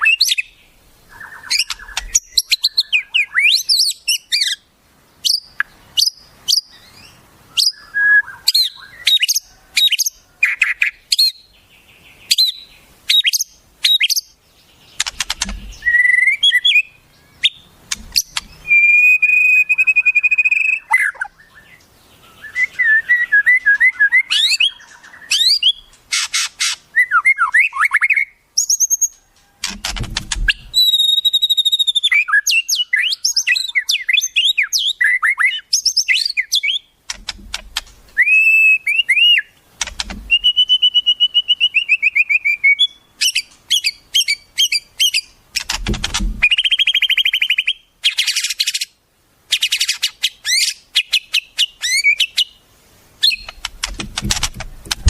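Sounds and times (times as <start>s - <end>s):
bird calls and whistles: 0.0s - 4.6s, 5.2s - 52.6s, 53.2s - 55.0s.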